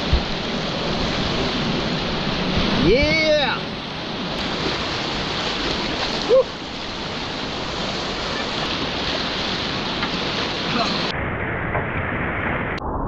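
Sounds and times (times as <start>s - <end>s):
whitewater rapids rushing: 0.0s - 11.1s.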